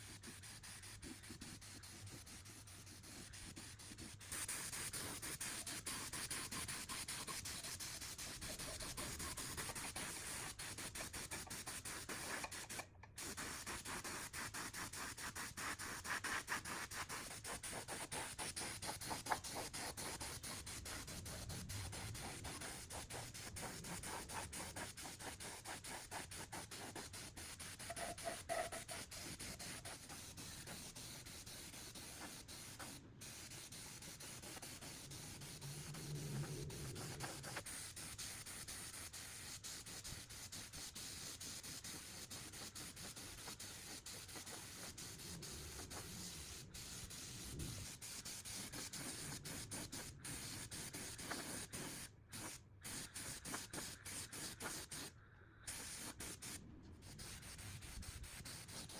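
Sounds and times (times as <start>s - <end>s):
rubbing strokes on a surface: 0.0s - 55.1s, 55.7s - 58.9s.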